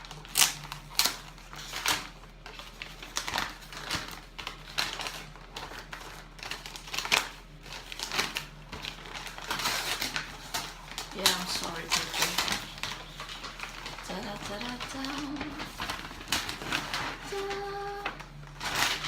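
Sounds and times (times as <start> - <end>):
paper crinkling and rustling: 0.0 - 19.0.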